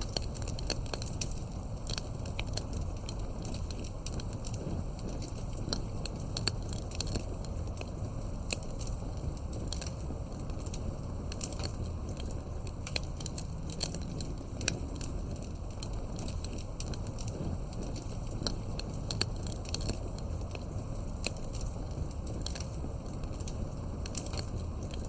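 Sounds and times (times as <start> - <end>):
campfire crackling and popping: 0.0 - 25.0
flame rumbling: 0.0 - 25.0.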